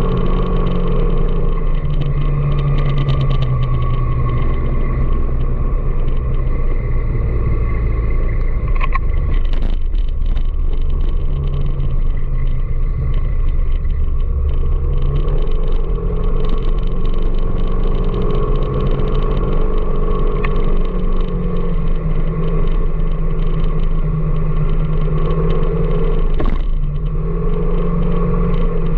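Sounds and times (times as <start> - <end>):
engine tones shifting pitch: 0.0 - 28.9
road traffic rumble: 0.0 - 28.9.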